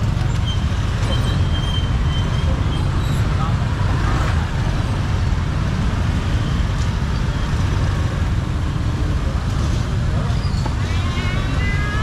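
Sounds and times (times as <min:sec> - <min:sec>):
other motorbikes: 0:00.0 - 0:12.0.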